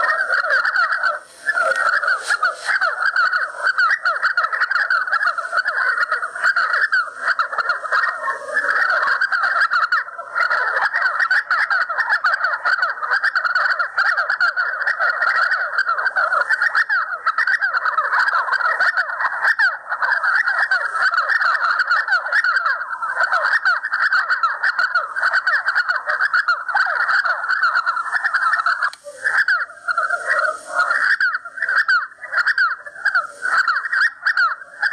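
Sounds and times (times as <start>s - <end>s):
partridges chattering calls: 0.0s - 34.9s.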